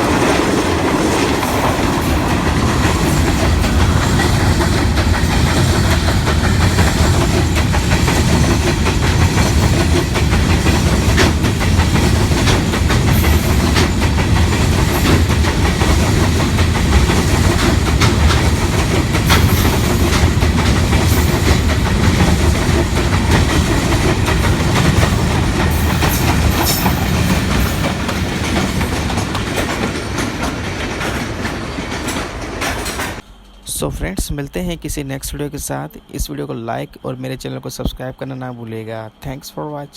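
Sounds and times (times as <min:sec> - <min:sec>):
wheels clattering over rail joints: 0:00.0 - 0:33.2
train rumbling: 0:00.0 - 0:39.9.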